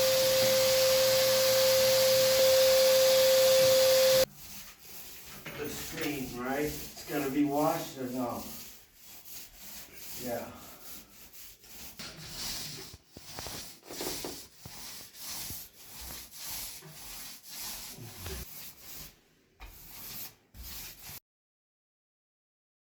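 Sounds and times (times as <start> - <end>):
sandpaper rubbing drywall: 0.0 - 21.2.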